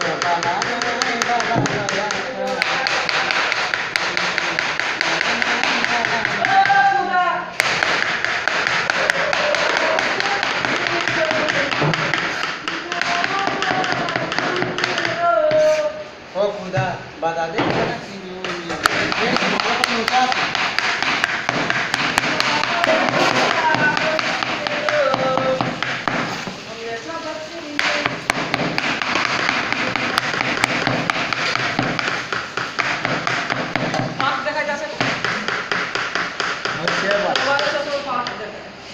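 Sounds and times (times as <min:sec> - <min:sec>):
knife chopping on plastic board: 0:00.0 - 0:06.8, 0:07.6 - 0:15.2, 0:17.6 - 0:26.6, 0:27.8 - 0:37.9.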